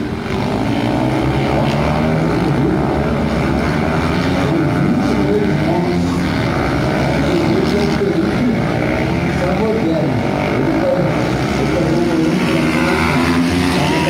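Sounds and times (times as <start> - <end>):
racing motorcycle engines droning: 0.0 - 14.0.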